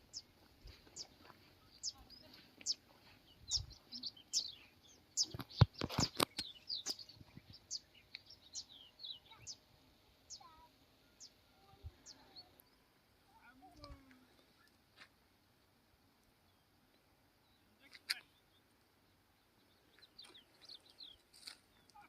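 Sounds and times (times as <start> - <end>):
small birds chirping: 0.0 - 15.1, 16.0 - 22.0.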